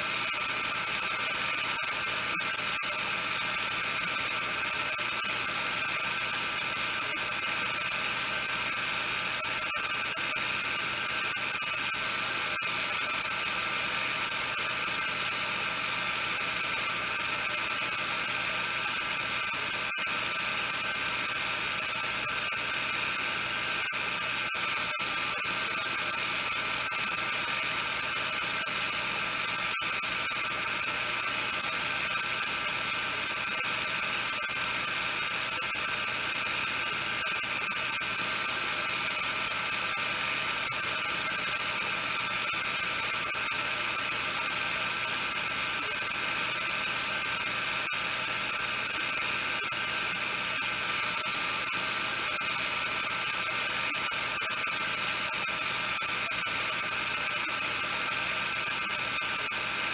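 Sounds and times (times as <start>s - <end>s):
constant high tones: 0.0s - 59.9s.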